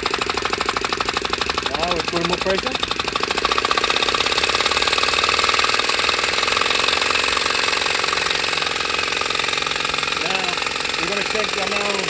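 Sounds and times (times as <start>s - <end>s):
air engine mechanical clatter: 0.0s - 12.0s.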